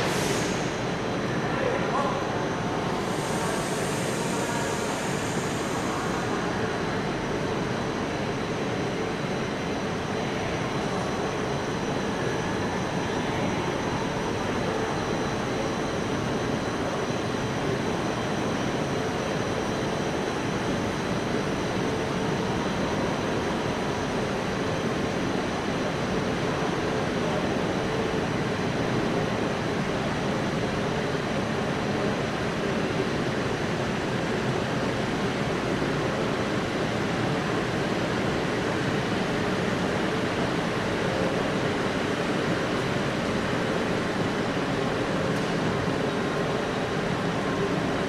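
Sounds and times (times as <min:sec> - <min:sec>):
ventilation hum and hiss: 0:00.0 - 0:48.0.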